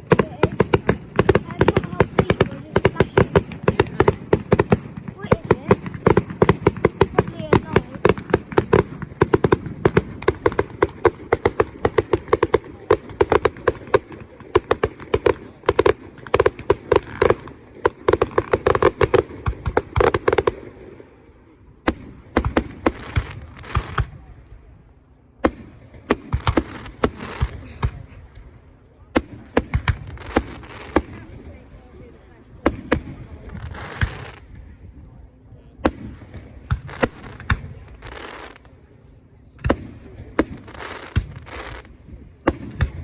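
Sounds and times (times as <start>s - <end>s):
fireworks bangs: 0.0s - 24.7s, 25.4s - 34.9s, 35.7s - 43.0s.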